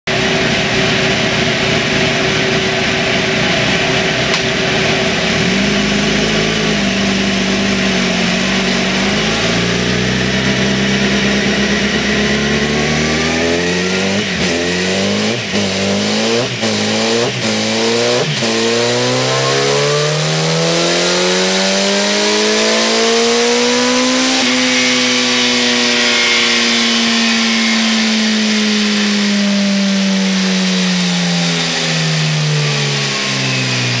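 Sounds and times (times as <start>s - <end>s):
motorcycle engine revving: 0.1s - 34.0s.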